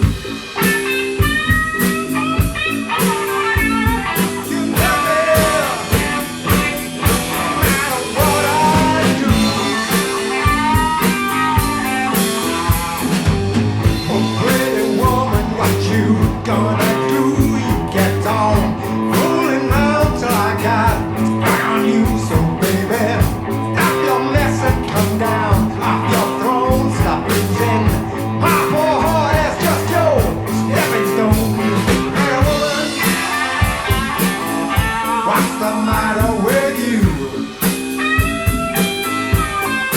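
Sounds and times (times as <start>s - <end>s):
bass guitar: 0.0s - 39.9s
drum kit beat: 0.0s - 39.9s
electric guitar with bent notes: 0.0s - 39.9s.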